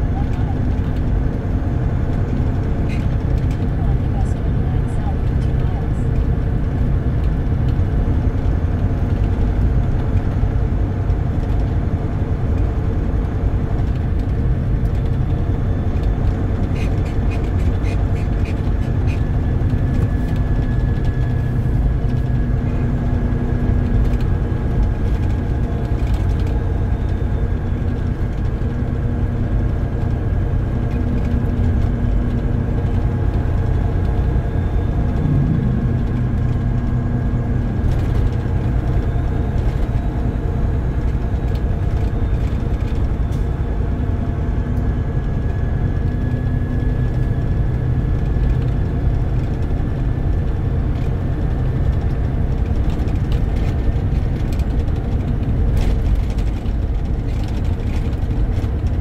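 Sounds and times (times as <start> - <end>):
car engine hum: 0.0 - 59.0
road noise: 0.0 - 59.0.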